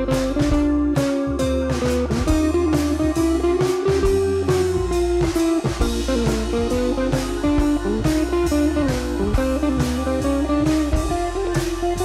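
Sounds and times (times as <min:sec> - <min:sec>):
blues guitar music with beat: 0:00.0 - 0:12.0.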